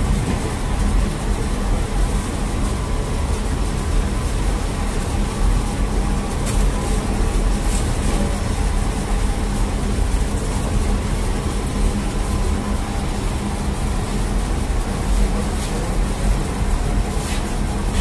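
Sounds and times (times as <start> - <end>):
bakery machinery humming: 0.0 - 18.0.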